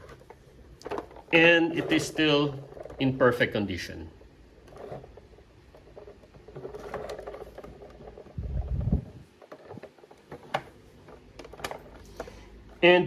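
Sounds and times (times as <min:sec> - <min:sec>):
plastic toy rubbing: 0:00.0 - 0:12.9.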